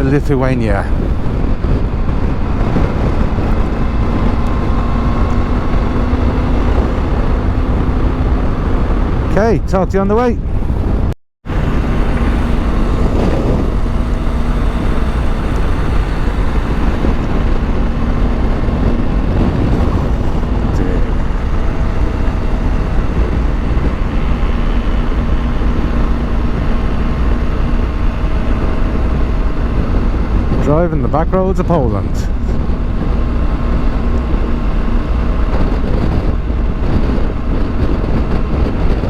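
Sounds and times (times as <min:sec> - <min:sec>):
motorcycle engine: 0:00.0 - 0:09.5, 0:10.4 - 0:39.0
wind rumble on microphone: 0:00.0 - 0:39.0.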